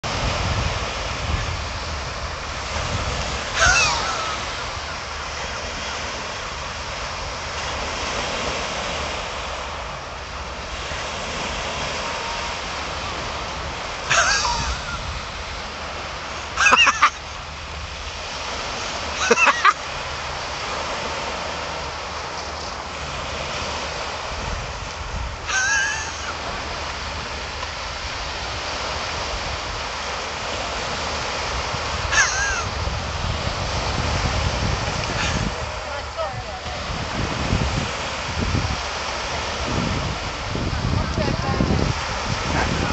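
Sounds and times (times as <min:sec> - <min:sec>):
waves washing over shingle: 0:00.0 - 0:42.9
wind on microphone: 0:00.0 - 0:42.9.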